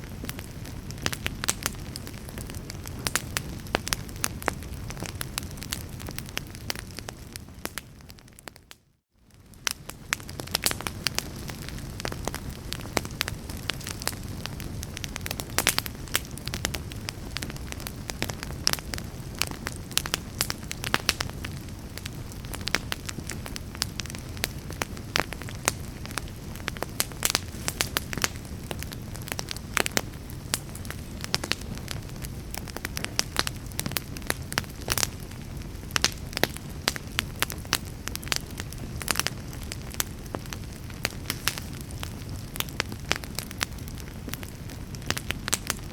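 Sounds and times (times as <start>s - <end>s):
logs crackling in fireplace: 0.0s - 45.9s.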